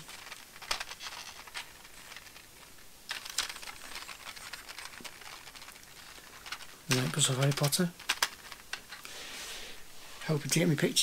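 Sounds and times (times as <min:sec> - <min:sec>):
plastic toy clicks and rattles: 0:00.0 - 0:09.2.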